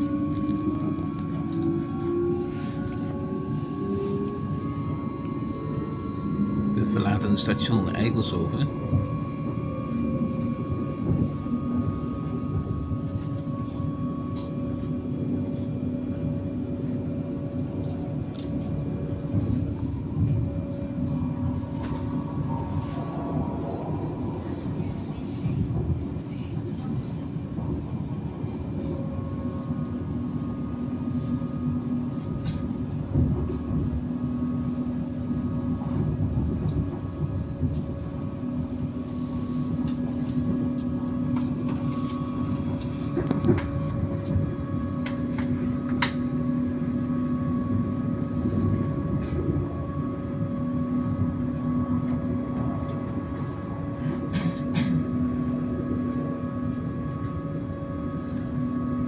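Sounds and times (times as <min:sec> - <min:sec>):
multi-tone hum: 0:00.0 - 0:59.0
train rumble: 0:00.0 - 0:59.0.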